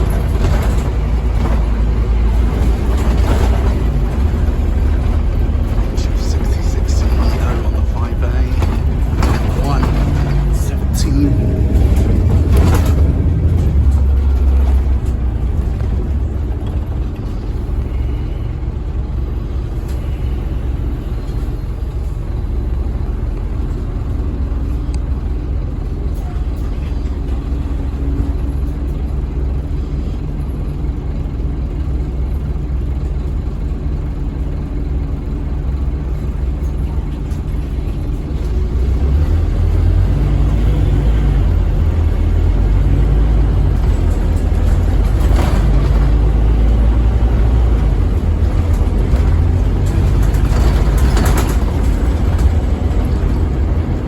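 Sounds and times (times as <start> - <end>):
bus diesel engine droning: 0.0 - 54.0
road noise: 0.0 - 54.0.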